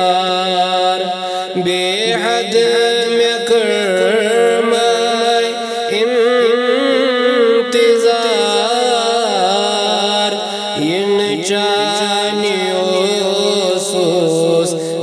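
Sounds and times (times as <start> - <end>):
person singing wordless melody: 0.0 - 15.0.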